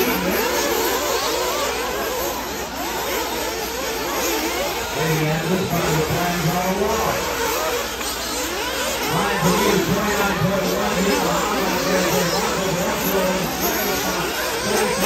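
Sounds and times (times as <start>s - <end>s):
small nitro engines revving: 0.0s - 15.0s.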